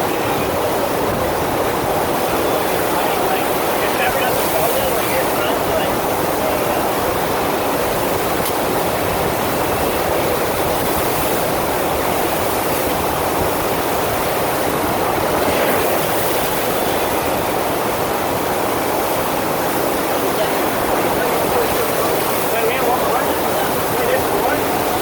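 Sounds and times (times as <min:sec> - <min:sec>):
water rushing from wave machine: 0:00.0 - 0:25.0.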